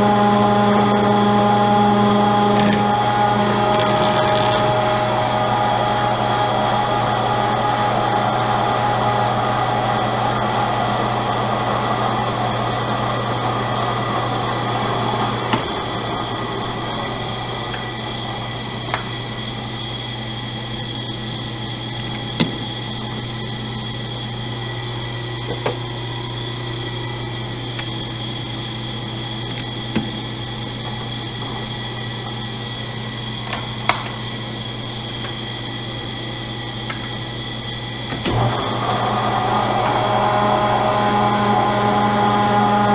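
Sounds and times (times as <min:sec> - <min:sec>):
metal lathe humming and whining: 0:00.0 - 0:42.9.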